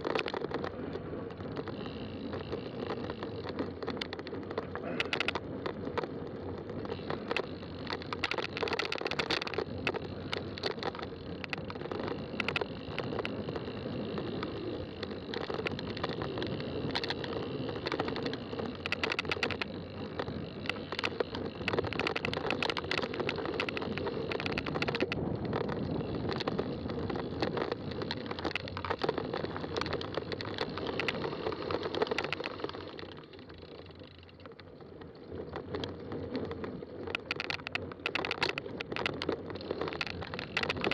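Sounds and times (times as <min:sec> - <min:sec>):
bike tyres rolling on trail: 0:00.0 - 0:40.9.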